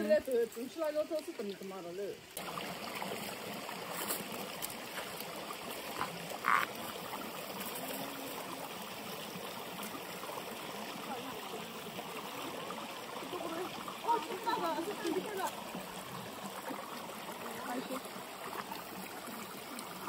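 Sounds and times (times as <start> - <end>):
river water running over stones: 0.0 - 20.0.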